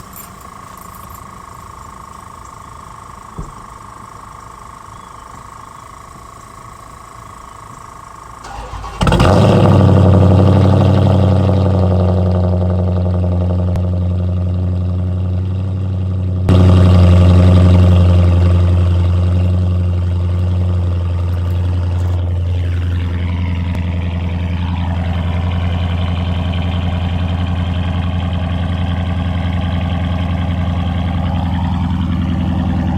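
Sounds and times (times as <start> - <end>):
car engine cranking and starting: 0.0 - 5.2, 7.5 - 32.9
loud engine idle: 0.0 - 32.9.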